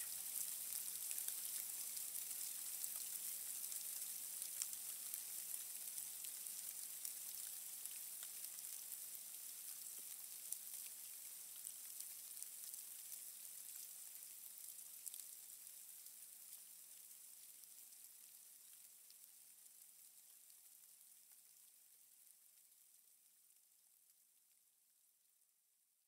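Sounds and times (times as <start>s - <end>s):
crackling hiss of water: 0.0s - 25.1s.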